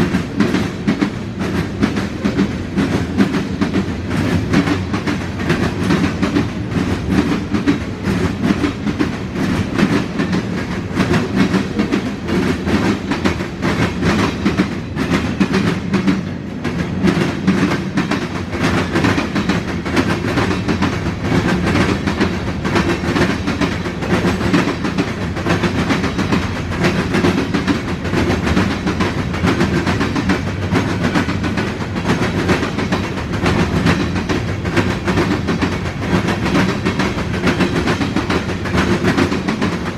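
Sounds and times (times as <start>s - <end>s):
freight cars rumbling and rattling: 0.0s - 39.9s
train wheels clicking over rail joints: 0.0s - 39.9s.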